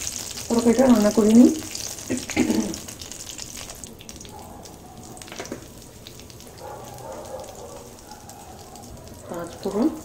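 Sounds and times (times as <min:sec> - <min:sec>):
oil sizzling in a wok: 0:00.0 - 0:10.0.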